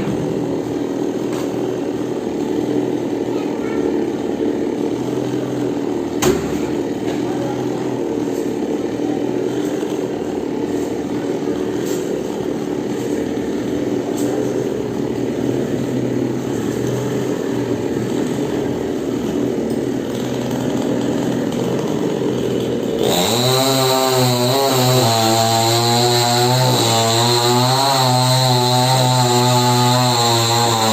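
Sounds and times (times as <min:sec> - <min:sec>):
chainsaw engine running: 0:00.0 - 0:30.9.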